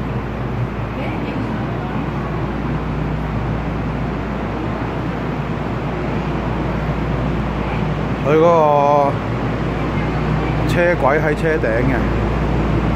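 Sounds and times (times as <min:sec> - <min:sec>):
train hum and hiss: 0:00.0 - 0:12.9.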